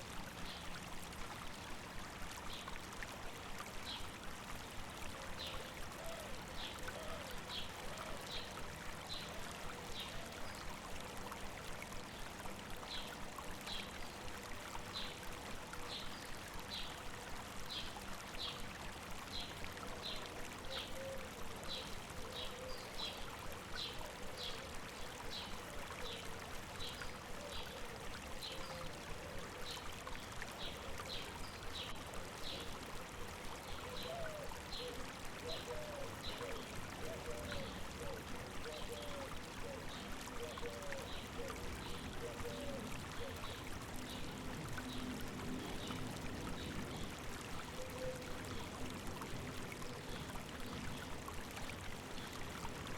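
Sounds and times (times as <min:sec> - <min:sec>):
stream running over rocks: 0:00.0 - 0:52.9.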